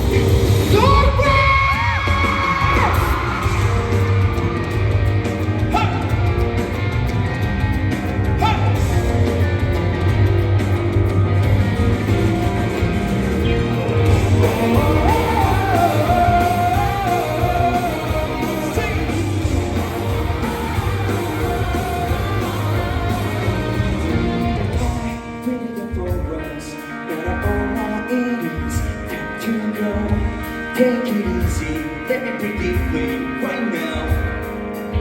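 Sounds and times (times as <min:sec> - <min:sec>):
rock band music: 0:00.0 - 0:35.0.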